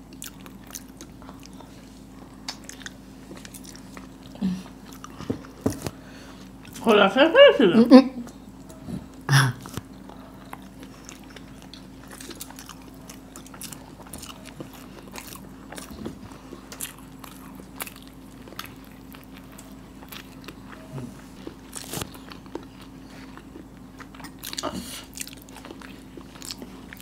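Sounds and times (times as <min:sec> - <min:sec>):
wet chewing with mouth clicks: 0:00.0 - 0:06.8, 0:08.3 - 0:27.0.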